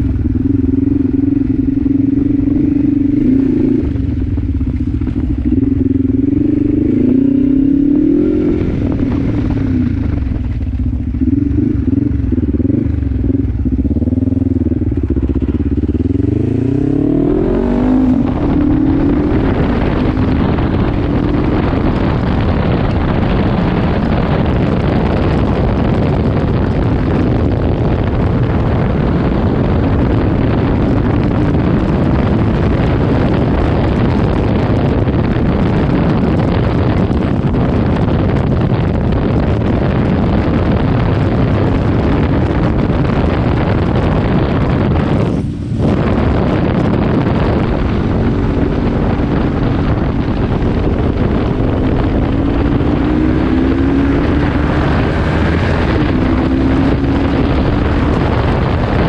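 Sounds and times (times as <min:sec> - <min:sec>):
motorcycle engine accelerating: 0:00.0 - 0:59.0
wind rushing over microphone: 0:00.0 - 0:59.0.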